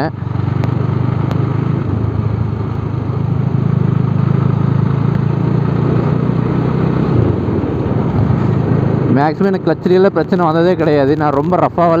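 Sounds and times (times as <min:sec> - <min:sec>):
motorcycle engine running: 0:00.0 - 0:12.0
steady rushing noise: 0:00.4 - 0:12.0.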